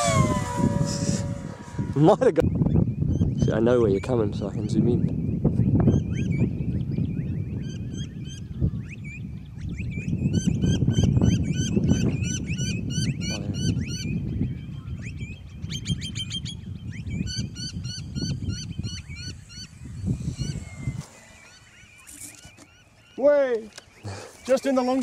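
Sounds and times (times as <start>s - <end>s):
wind gusts on microphone: 0.0s - 22.5s
flock of birds chirping: 0.0s - 25.0s.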